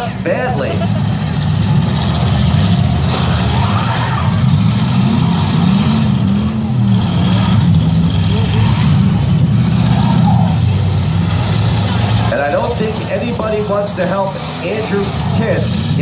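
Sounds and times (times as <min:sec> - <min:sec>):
car engines running and revving: 0:00.0 - 0:16.0.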